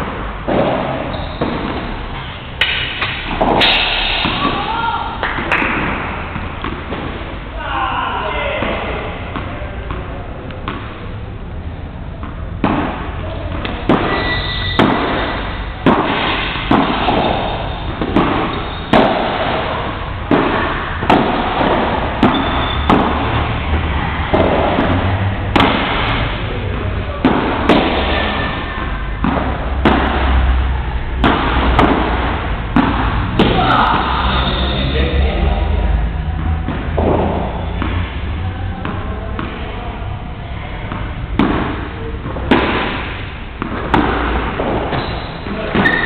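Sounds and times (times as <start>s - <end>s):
padel ball hit with rackets: 0.0s - 2.0s, 2.6s - 7.3s, 8.5s - 11.2s, 12.2s - 34.4s, 36.4s - 39.8s, 40.8s - 46.0s
ball bouncing off court: 0.0s - 7.3s, 8.5s - 11.2s, 12.2s - 34.6s, 36.4s - 39.8s, 40.8s - 46.0s.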